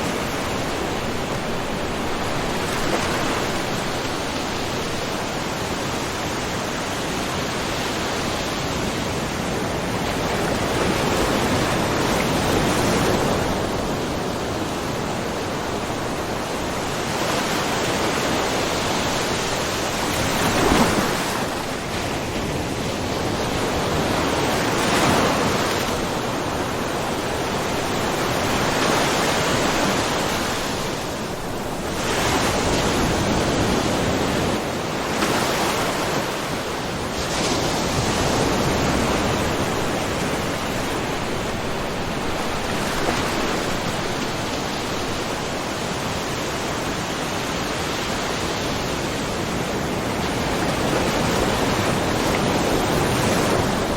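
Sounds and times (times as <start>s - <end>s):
small waves lapping on rocky shore: 0.0s - 53.9s.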